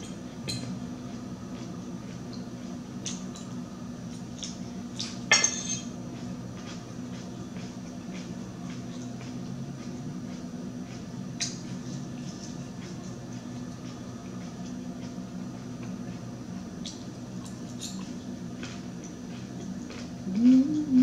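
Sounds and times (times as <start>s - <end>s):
soft wet chewing: 0.0s - 5.2s, 5.9s - 21.0s
steady low hum: 0.0s - 21.0s.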